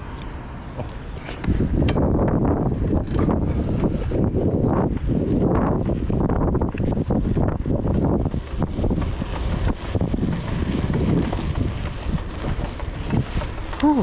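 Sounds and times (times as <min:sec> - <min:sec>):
road noise: 0:00.0 - 0:14.0
wind buffeting microphone: 0:00.8 - 0:14.0.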